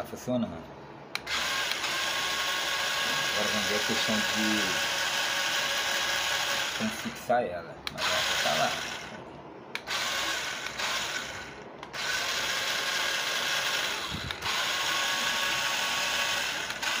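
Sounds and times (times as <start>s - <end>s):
toy truck motors whirring: 1.2s - 7.1s, 7.9s - 9.2s, 9.8s - 17.0s.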